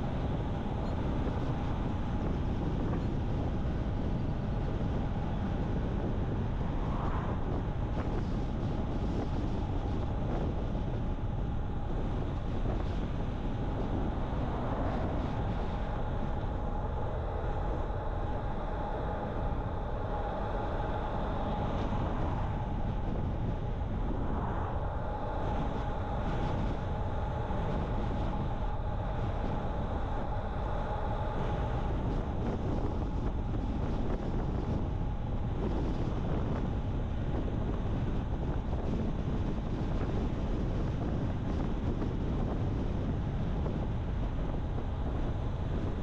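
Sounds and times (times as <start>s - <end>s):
car driving at road speed: 0.0s - 46.0s
faint steady whine: 0.0s - 46.0s.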